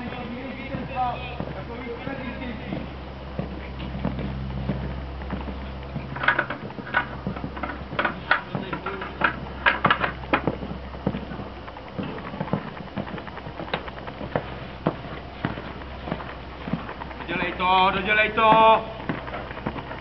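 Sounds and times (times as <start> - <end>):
horse hoofbeats on sand: 0.0 - 20.0.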